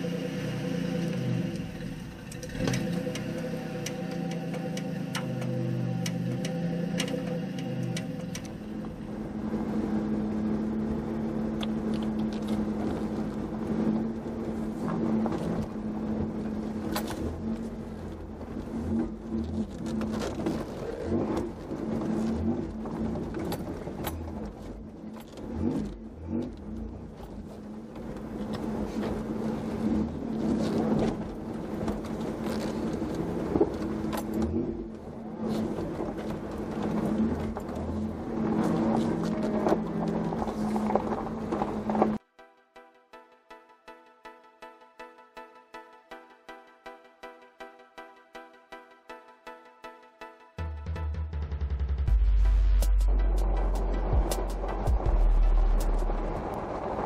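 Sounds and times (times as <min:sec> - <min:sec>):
car engine humming: 0:00.0 - 0:42.2, 0:50.6 - 0:57.0.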